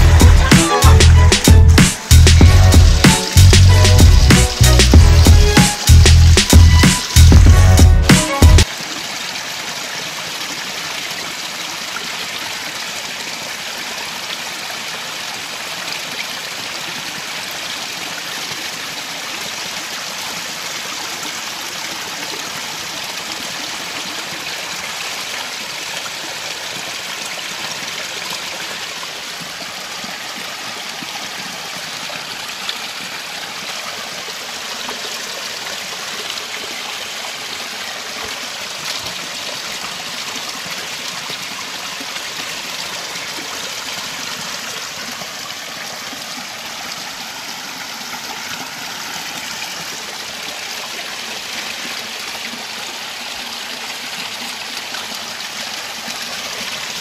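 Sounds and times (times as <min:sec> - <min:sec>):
stream water tumbling over rocks: 0:00.0 - 0:57.0.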